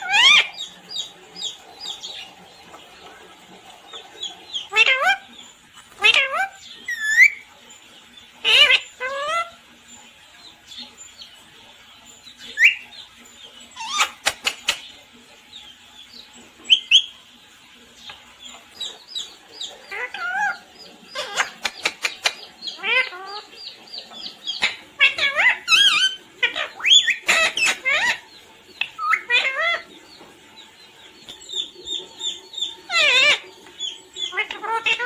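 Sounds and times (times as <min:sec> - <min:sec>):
parrot squawking and chirping: 0:00.0 - 0:15.0, 0:15.6 - 0:35.0.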